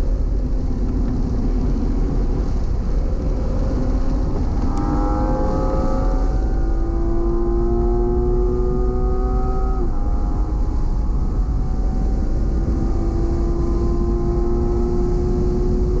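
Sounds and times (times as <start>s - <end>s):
car engine accelerating: 0.0s - 16.0s
road and wind rumble: 0.0s - 16.0s.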